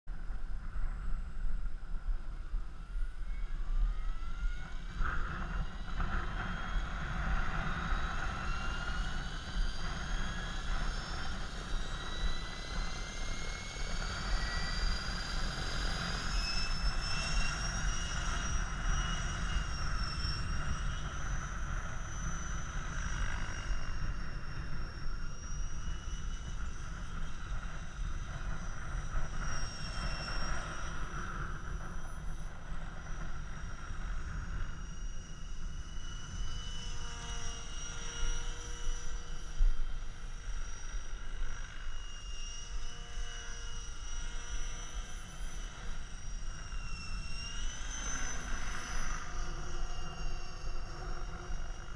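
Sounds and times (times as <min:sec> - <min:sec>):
rc helicopter motor and rotor whine: 0:00.1 - 0:51.9.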